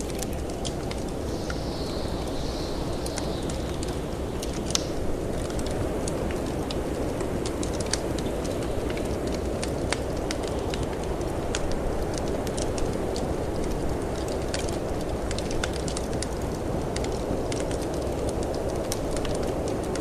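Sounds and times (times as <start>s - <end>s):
rushing storm wind: 0.0s - 20.0s
wood fire crackling and popping: 0.0s - 20.0s.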